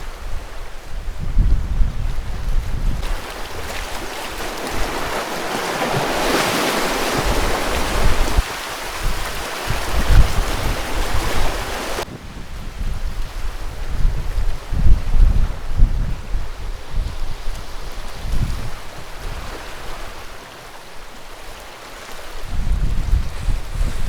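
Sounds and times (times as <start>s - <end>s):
wind buffeting microphone: 0.0s - 20.4s, 22.3s - 24.0s
sea surf washing onto beach: 1.9s - 24.0s.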